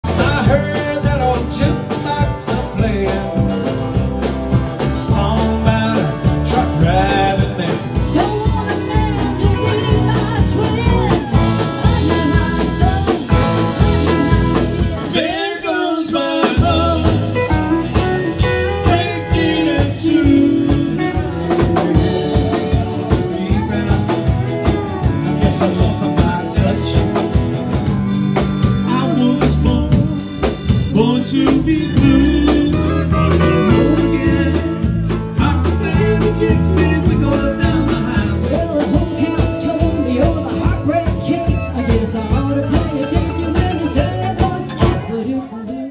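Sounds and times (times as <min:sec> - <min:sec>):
lead vocal singing: 0:00.0 - 0:27.8, 0:28.6 - 0:45.9
drum kit: 0:00.0 - 0:45.9
electric and acoustic guitars: 0:00.0 - 0:45.9
pedal steel guitar: 0:00.1 - 0:15.5, 0:16.4 - 0:45.6.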